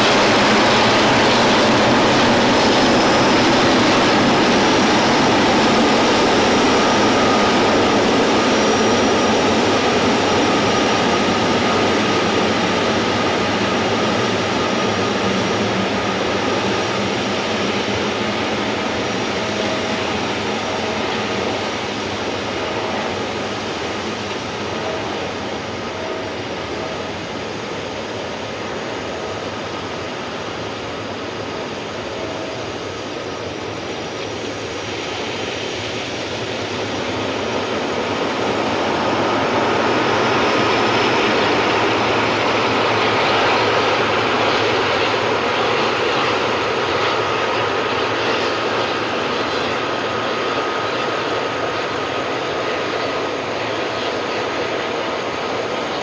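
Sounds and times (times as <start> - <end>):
jet engines taxiing: 0.0 - 56.0.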